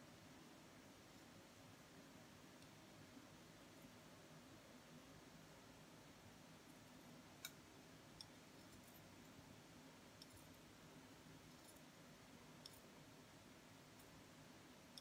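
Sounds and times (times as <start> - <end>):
room hiss: 0.0 - 15.0.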